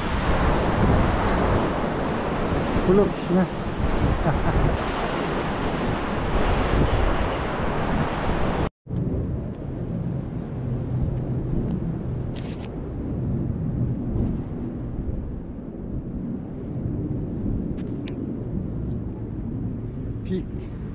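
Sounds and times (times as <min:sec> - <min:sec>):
wind rumbling on microphone: 0:00.0 - 0:20.9.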